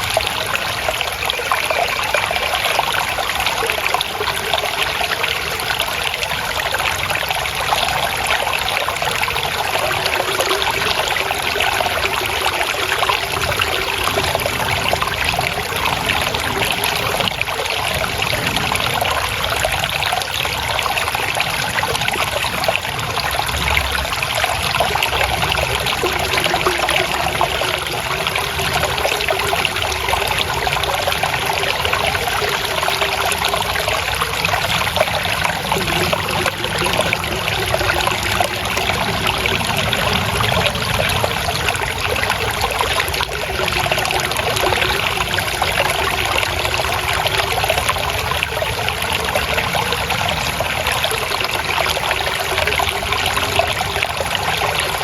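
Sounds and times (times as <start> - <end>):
water trickling over stones: 0.0 - 55.0.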